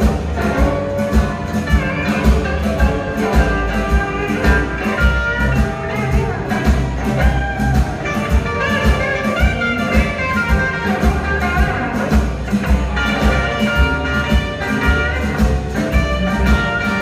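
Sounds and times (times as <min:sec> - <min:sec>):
live blues band playing: 0:00.0 - 0:17.0
saxophone horn section: 0:00.0 - 0:17.0.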